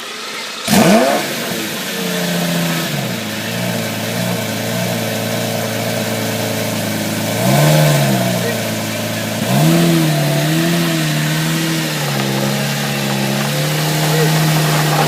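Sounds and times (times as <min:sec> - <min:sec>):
sports car engine revving and idling: 0:00.0 - 0:15.0.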